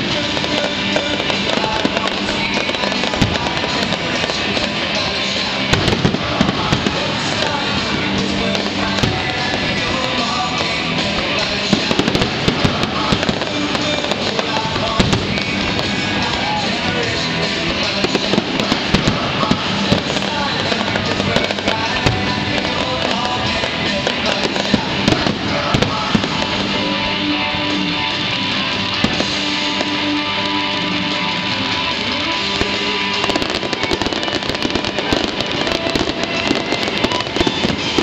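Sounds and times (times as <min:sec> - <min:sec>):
fireworks bursts and crackles: 0:00.0 - 0:38.0
music playing: 0:00.0 - 0:38.0.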